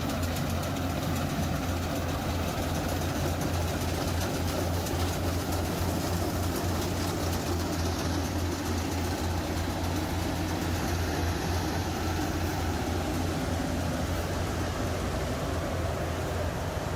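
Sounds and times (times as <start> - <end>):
diesel engine humming: 0.0 - 16.9.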